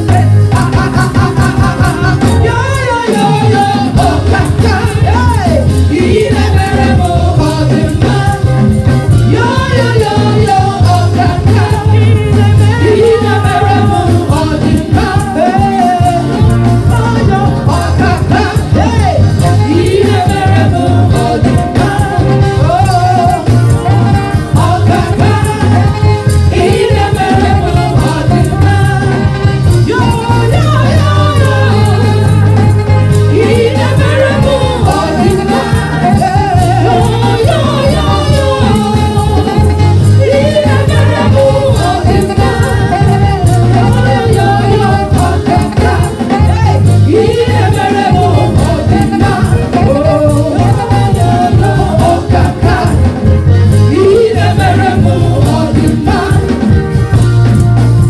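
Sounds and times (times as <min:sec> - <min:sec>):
amplified music with bass line: 0:00.0 - 0:58.0
women singing gospel: 0:00.0 - 0:58.0.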